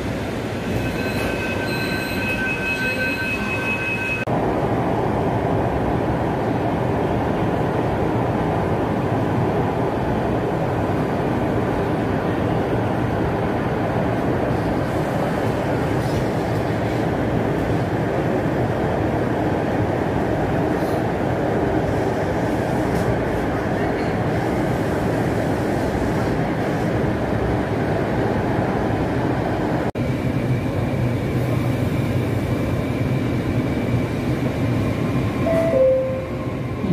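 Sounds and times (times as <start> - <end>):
metro train running noise: 0.0 - 36.9.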